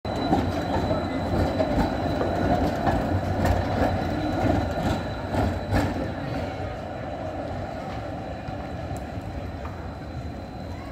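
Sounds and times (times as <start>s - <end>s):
tram rumbling past: 0.1s - 10.9s.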